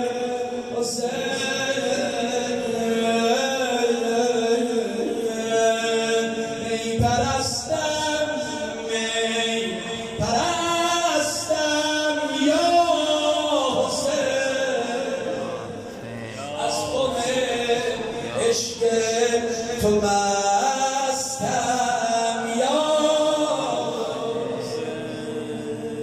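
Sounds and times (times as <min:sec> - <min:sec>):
man chanting over loudspeakers: 0:00.0 - 0:26.0.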